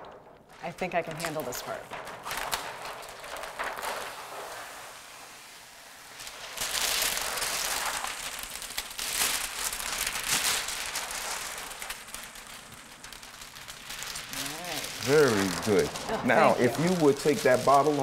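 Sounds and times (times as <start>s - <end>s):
plastic liner crinkling as peeled: 0.0s - 5.5s, 6.1s - 18.0s.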